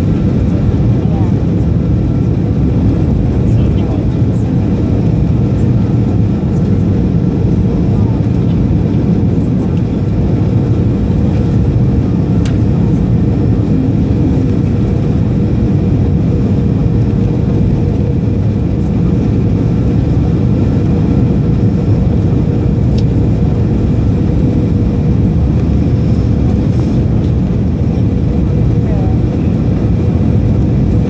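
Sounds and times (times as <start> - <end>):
airplane cabin low rumble: 0.0 - 31.0.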